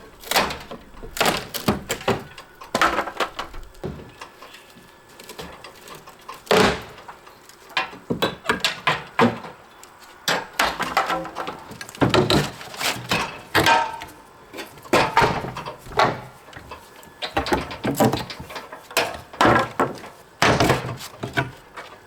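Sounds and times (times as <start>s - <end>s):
wooden boards cracking and knocking: 0.0s - 9.6s, 10.2s - 22.0s.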